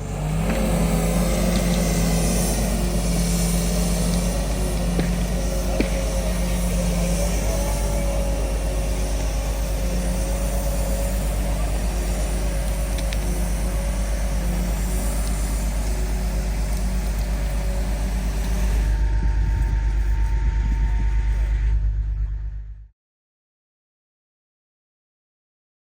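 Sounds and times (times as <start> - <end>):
heavy machine engine running: 0.0 - 22.9.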